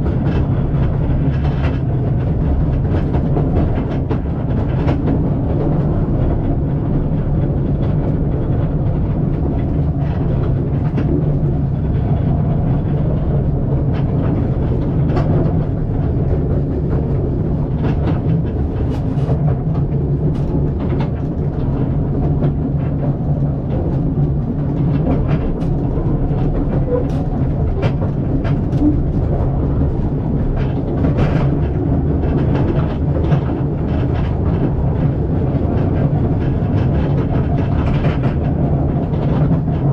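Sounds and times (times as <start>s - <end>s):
railway carriage rumbling: 0.0s - 39.9s
wheels clicking over rails: 0.0s - 39.9s.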